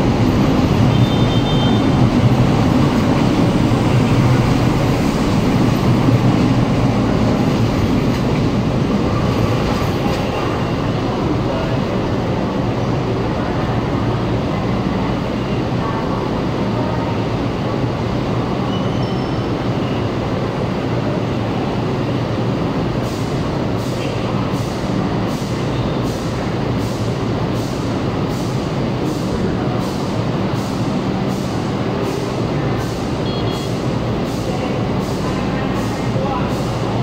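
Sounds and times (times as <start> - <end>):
city traffic noise: 0.0 - 37.0
trains rumbling on elevated line: 0.0 - 37.0.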